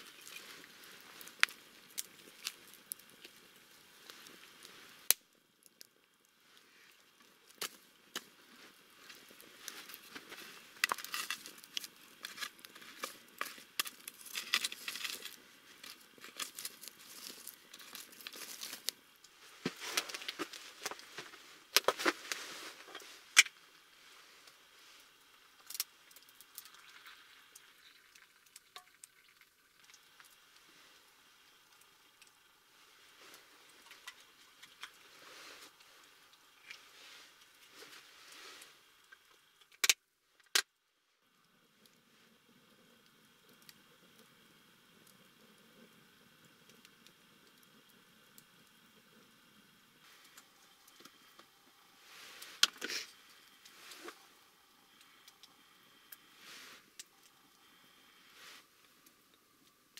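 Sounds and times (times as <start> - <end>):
campfire crackling and popping: 0.0 - 40.7, 41.3 - 59.9.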